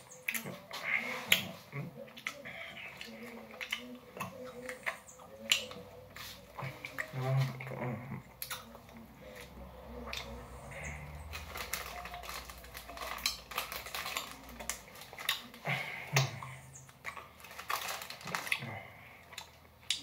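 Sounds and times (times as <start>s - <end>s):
chewing with wet mouth smacks: 0.0s - 20.0s.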